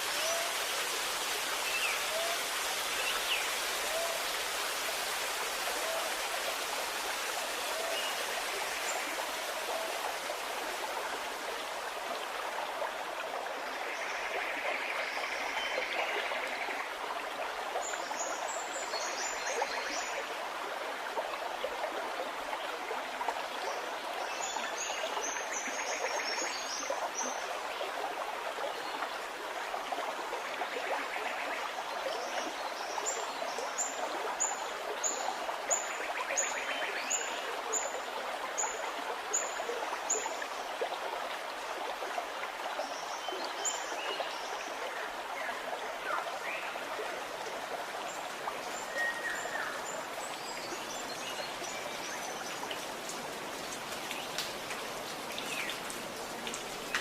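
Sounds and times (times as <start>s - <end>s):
stream running and gurgling: 0.0s - 57.0s.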